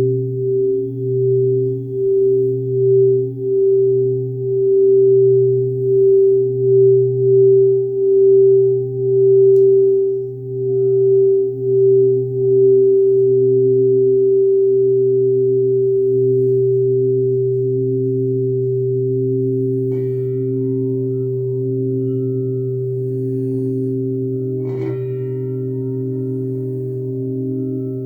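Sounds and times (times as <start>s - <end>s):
crystal singing bowls humming: 0.0s - 28.0s
singing bowl struck ringing: 0.0s - 28.0s.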